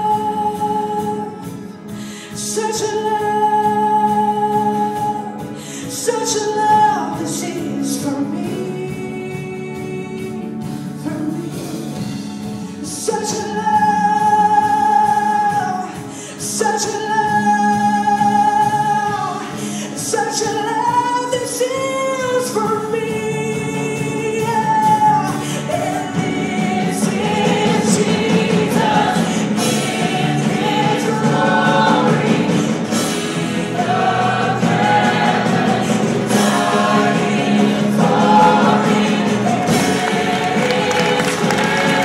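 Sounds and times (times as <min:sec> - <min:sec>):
instrumental backing: 0:00.0 - 0:42.0.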